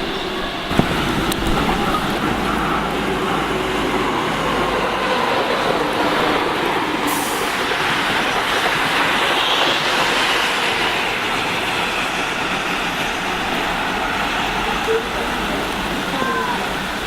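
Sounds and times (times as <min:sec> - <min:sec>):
electric train passing on rails: 0:00.0 - 0:17.0.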